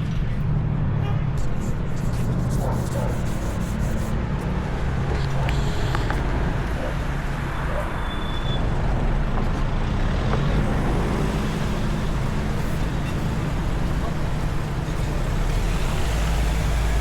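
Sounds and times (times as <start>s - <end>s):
low rumble of passing traffic: 0.0s - 17.0s.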